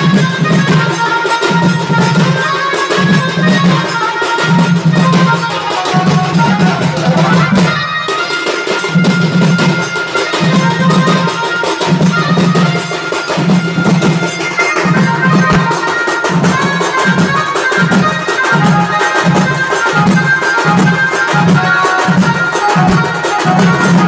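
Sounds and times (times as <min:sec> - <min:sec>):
drums beaten with sticks: 0:00.0 - 0:24.0
high reedy wind melody: 0:00.0 - 0:24.0.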